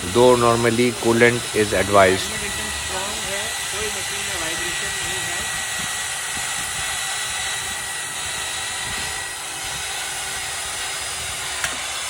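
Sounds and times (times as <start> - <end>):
drill boring through steel: 0.0 - 12.0.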